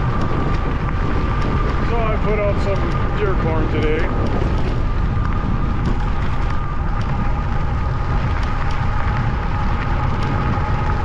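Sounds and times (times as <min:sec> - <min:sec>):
high motor whine: 0:00.0 - 0:11.0
wind rushing over microphone: 0:00.0 - 0:11.0.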